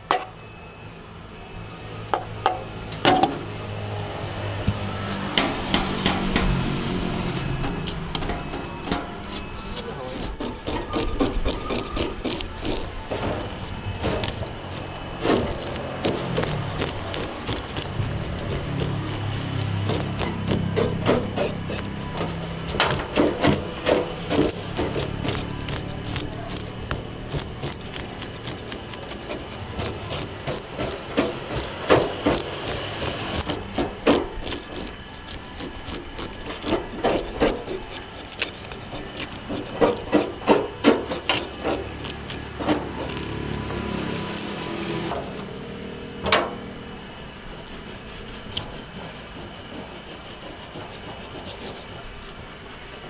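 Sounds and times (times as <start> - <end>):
fish scaler rasping on scales: 4.6 - 45.1, 47.4 - 53.0.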